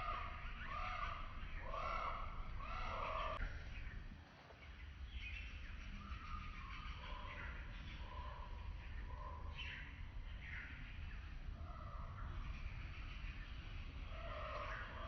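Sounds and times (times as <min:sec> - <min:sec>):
bird calling: 0:00.0 - 0:04.0, 0:04.7 - 0:15.0.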